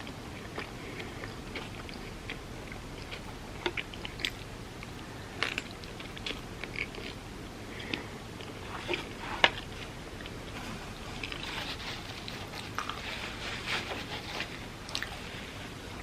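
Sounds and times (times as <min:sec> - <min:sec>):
moist chewing: 0:00.0 - 0:16.0.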